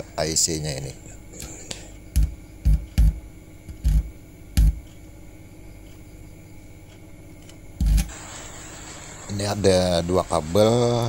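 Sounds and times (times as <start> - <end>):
faint steady speaker hum: 0.0 - 11.0
loud mains hum buzz bursts: 0.0 - 11.0.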